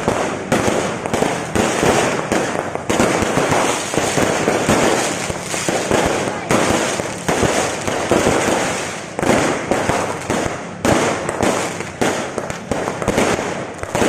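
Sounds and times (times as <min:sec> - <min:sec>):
firecrackers crackling: 0:00.0 - 0:14.0
fireworks banging: 0:00.0 - 0:14.0.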